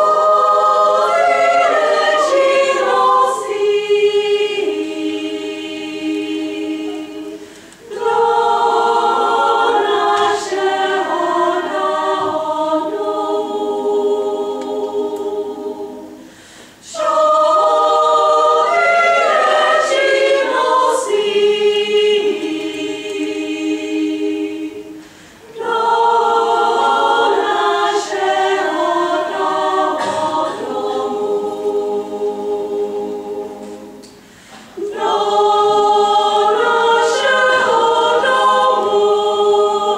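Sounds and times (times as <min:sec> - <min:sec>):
women's choir singing a cappella: 0:00.0 - 0:39.9.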